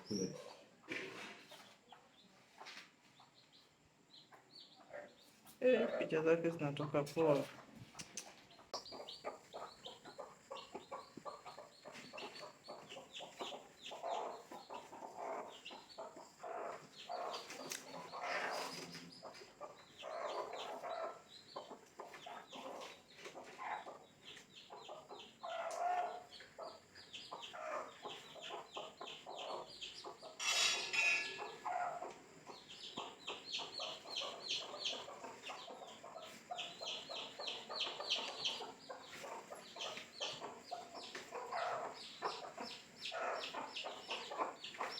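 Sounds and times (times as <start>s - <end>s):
chicken clucking: 0.0s - 44.9s
chicks peeping: 0.0s - 44.9s.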